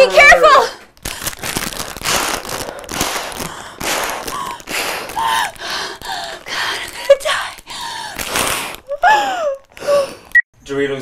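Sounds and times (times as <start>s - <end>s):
woman gasping into crisp bag: 0.8s - 10.4s
crisp bag crumpling: 0.9s - 10.4s.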